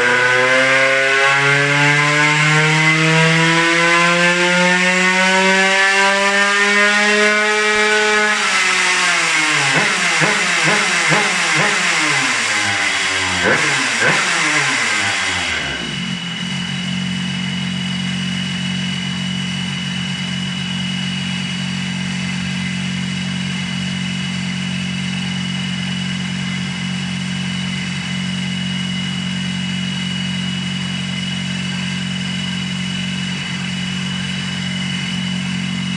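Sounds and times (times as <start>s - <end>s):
two-stroke engine revving down: 0.0s - 35.9s.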